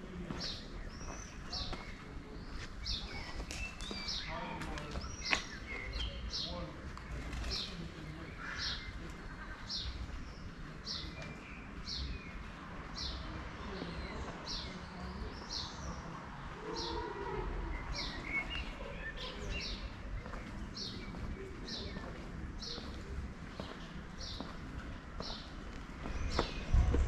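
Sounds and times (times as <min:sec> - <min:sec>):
street background rumble: 0:00.0 - 0:27.0.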